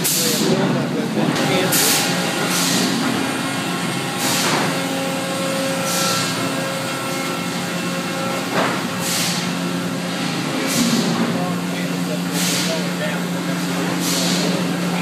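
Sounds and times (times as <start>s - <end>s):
sawmill machinery humming: 0.0s - 15.0s.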